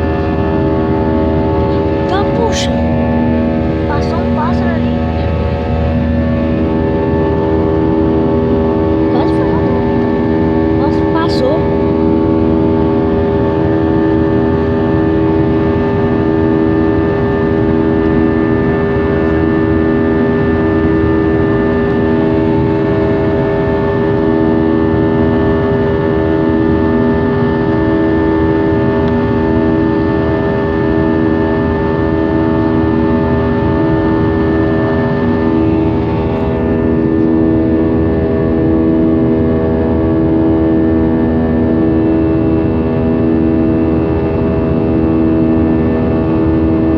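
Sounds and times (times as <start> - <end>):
jet engines heard from cabin: 0.0 - 46.9.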